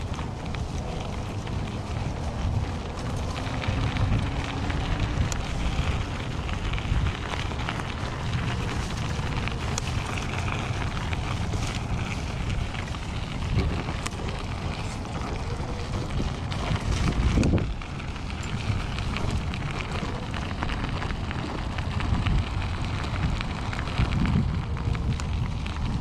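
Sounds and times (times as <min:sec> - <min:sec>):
bike tyres rolling on gravel: 0:00.0 - 0:26.0
small clicks from bumps: 0:00.0 - 0:26.0
wind buffeting microphone: 0:00.0 - 0:26.0.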